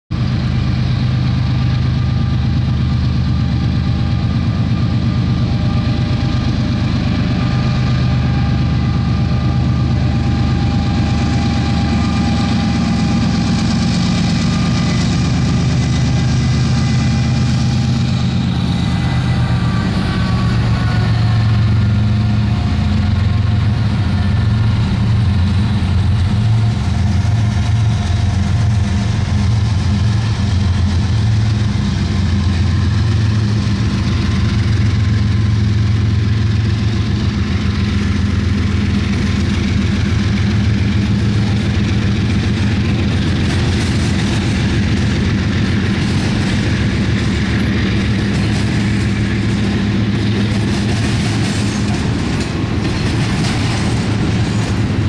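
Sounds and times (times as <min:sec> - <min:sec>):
diesel locomotive engine drone: 0:00.1 - 0:55.0.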